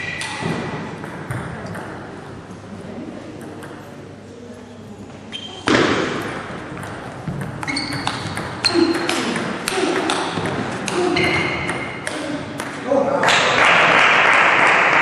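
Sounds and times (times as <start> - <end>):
spectators' voices in hall: 0.0 - 15.0.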